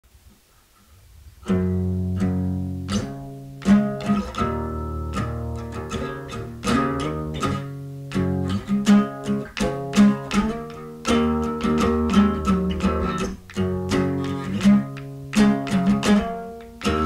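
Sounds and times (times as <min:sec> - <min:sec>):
plucked guitar-like string notes: 0:01.4 - 0:17.0.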